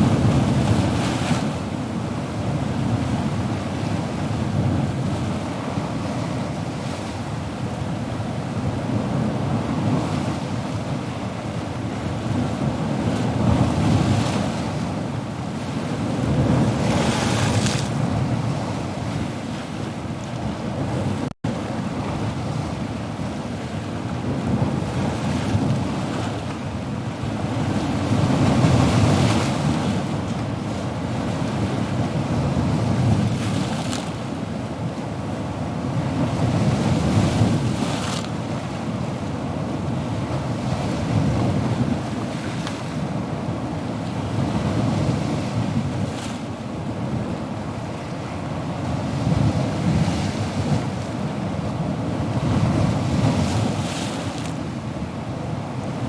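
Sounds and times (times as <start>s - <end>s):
ocean surf washing: 0.0s - 56.0s.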